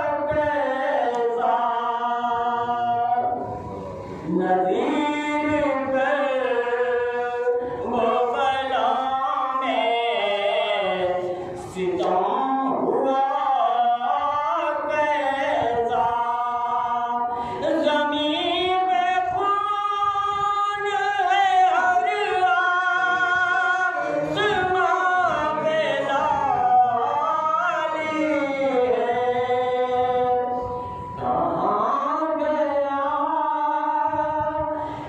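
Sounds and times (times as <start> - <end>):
man singing a slow chant: 0.0 - 35.0.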